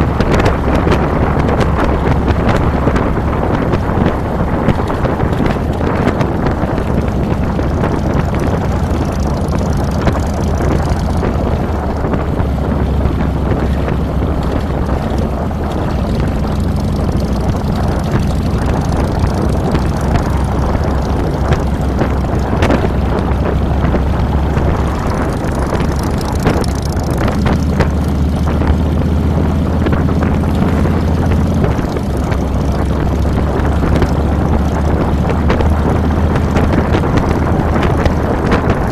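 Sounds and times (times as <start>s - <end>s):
motorcycle engine riding: 0.0s - 38.9s
wind rushing over microphone: 0.0s - 38.9s.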